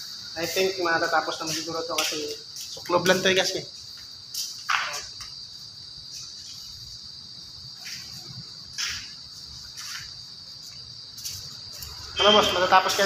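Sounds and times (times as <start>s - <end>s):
cricket chirring: 0.0s - 13.0s.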